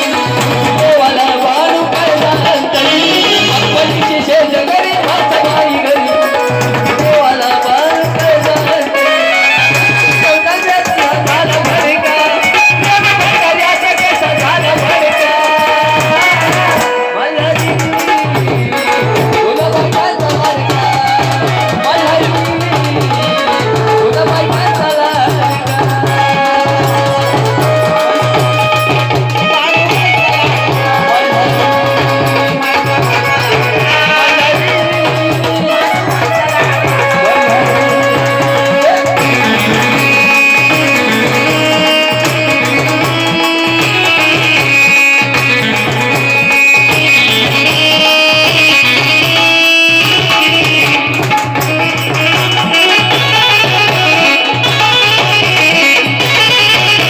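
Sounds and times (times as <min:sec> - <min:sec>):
hand drum beat: 0:00.0 - 0:57.0
instrumental music: 0:00.0 - 0:57.0.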